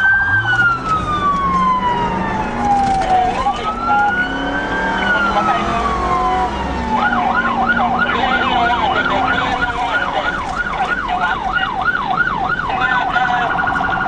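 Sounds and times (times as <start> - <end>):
police siren: 0.0 - 14.0.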